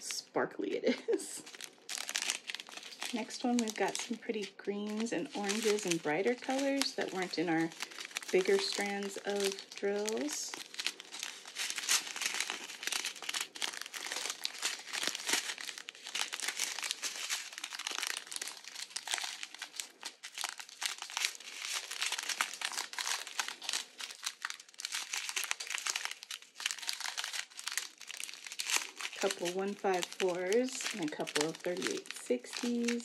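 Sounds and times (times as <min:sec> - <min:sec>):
plastic bags crinkling: 0:00.8 - 0:33.0.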